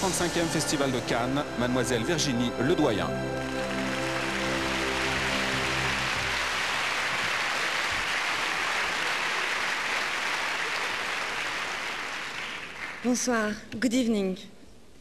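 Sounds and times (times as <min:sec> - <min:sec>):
large audience applauding: 0:00.1 - 0:13.3.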